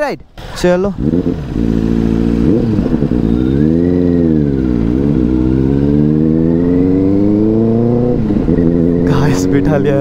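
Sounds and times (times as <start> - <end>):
motorcycle engine pulling away: 0.4 - 10.0.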